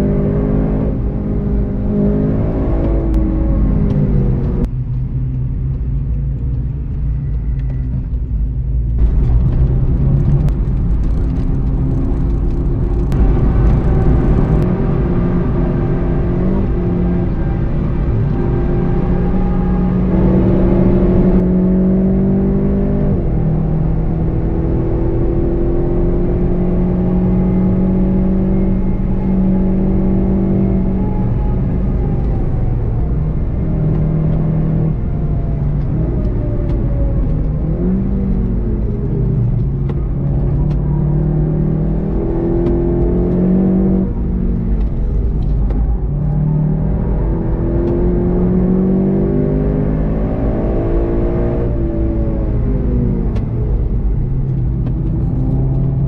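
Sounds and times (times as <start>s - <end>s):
car engine revving: 0.0s - 5.1s, 7.0s - 56.0s
road and tyre rumble: 0.0s - 56.0s.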